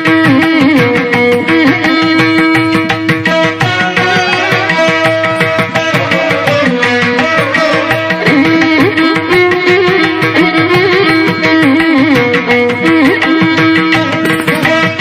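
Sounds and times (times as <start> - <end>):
light regular percussion: 0.0 - 15.0
sliding melody line: 0.3 - 15.0.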